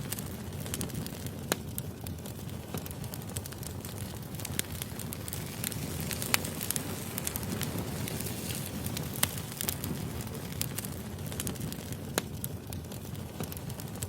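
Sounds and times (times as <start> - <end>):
sharp pops and snaps: 0.0 - 14.0
wood fire crackling: 0.0 - 14.0.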